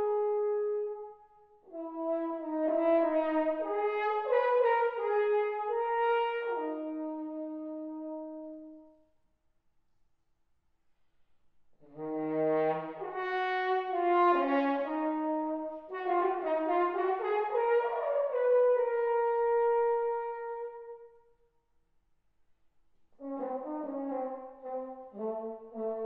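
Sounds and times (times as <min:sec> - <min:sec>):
solo french horn playing: 0:00.0 - 0:09.1, 0:11.8 - 0:21.3, 0:23.2 - 0:26.0.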